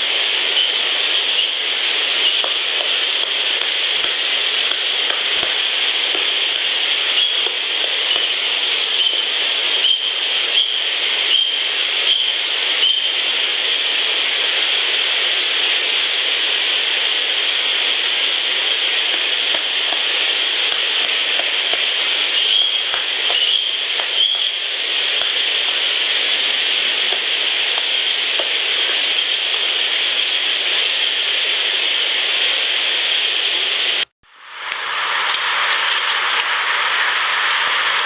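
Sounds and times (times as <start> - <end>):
loud steady hiss: 0.0 - 38.0.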